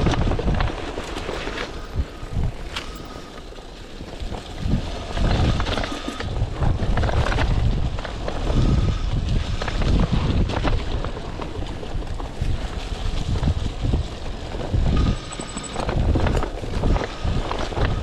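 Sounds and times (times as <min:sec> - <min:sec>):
bike rattling over bumps: 0:00.0 - 0:18.0
tyres rolling over dry leaves: 0:00.0 - 0:18.0
wind buffeting microphone: 0:00.0 - 0:18.0.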